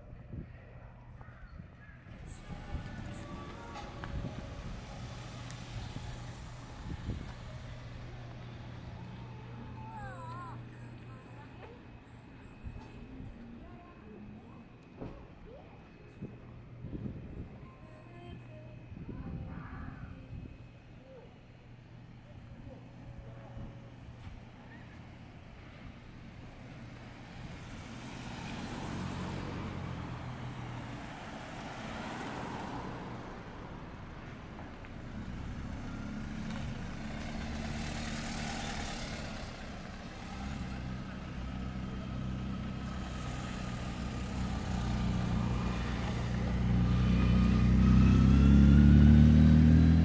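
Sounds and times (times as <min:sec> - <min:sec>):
traffic passing on road: 0:00.0 - 0:50.0.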